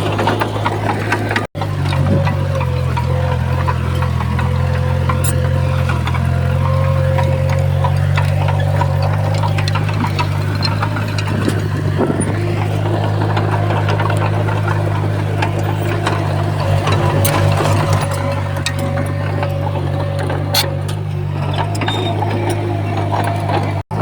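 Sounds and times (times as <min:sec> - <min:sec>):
heavy diesel engine droning: 0:00.0 - 0:24.0
light clicks and clanks: 0:00.1 - 0:23.8.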